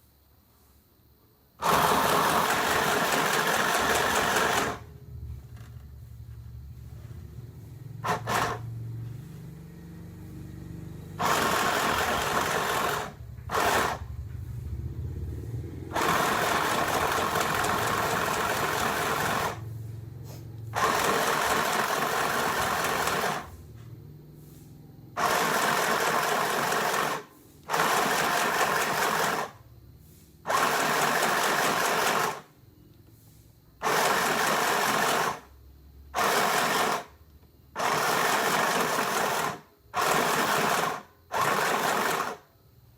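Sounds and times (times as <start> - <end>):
sewing machine running: 1.6 - 5.8, 6.4 - 23.6, 25.2 - 29.6, 30.5 - 32.5, 33.8 - 35.5, 36.2 - 42.5.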